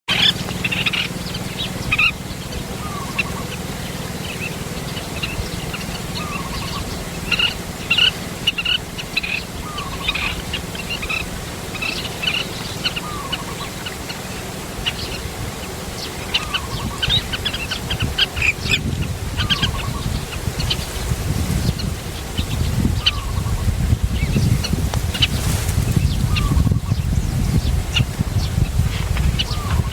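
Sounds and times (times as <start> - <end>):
birds chirping: 0.1 - 29.9
low steady rumble: 0.1 - 29.9.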